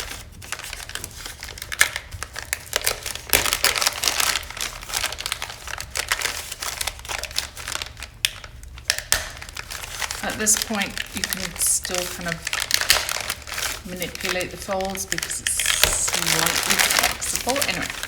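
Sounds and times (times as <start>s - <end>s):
plastic sheeting crinkling: 0.0s - 18.0s.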